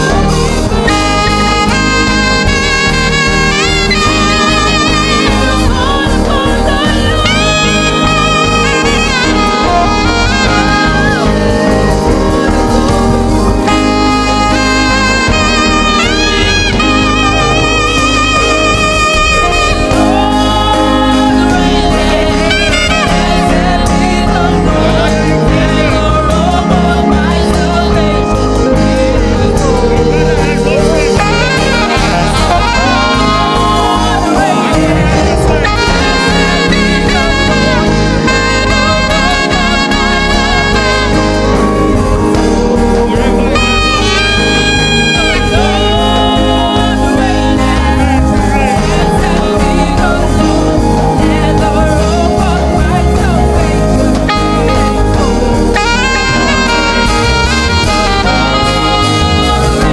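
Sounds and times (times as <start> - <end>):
drums: 0.0 - 59.9
gospel band playing: 0.0 - 59.9
keyboard: 0.0 - 59.9
saxophone lead melody: 0.0 - 59.9
strong bass: 0.0 - 59.9.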